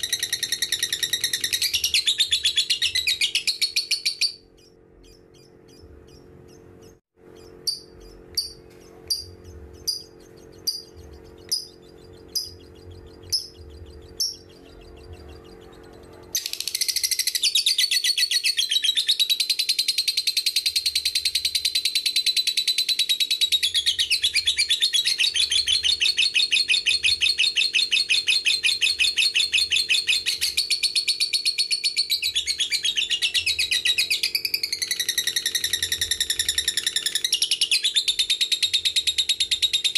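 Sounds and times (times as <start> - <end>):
lovebird chirping and chattering trill: 0.0 - 39.9.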